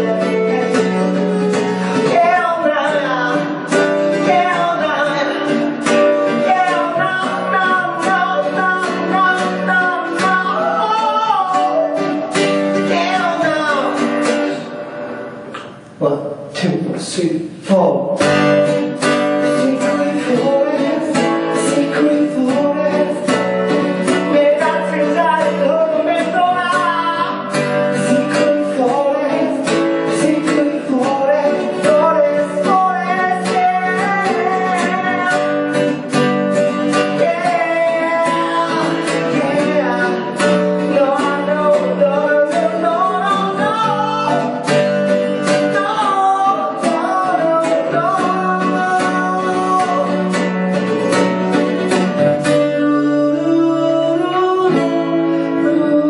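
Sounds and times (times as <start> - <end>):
man singing: 0.0 - 14.7, 15.9 - 56.0
acoustic guitar strumming: 0.0 - 56.0.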